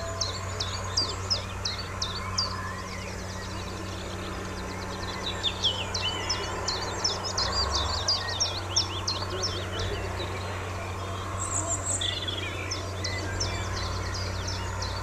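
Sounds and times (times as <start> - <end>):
distant locomotive drone: 0.0 - 15.0
songbirds chirping: 0.0 - 15.0.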